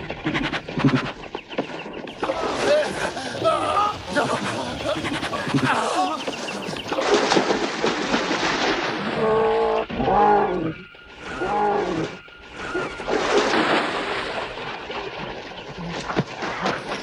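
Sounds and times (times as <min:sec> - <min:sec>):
big cats snarling and roaring: 0:00.0 - 0:17.0
water thrashing and splashing: 0:00.0 - 0:17.0.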